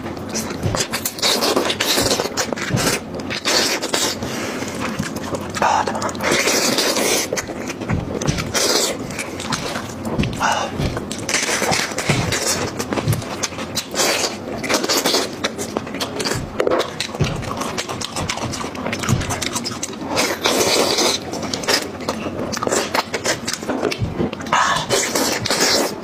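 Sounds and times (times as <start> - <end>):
wet chewing and lip-smacking: 0.2 - 26.0.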